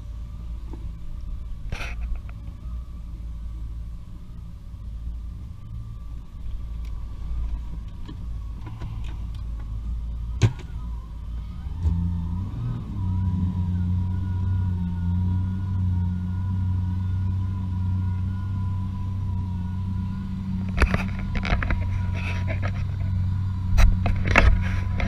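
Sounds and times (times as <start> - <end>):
motorboat engine running: 0.0 - 25.0.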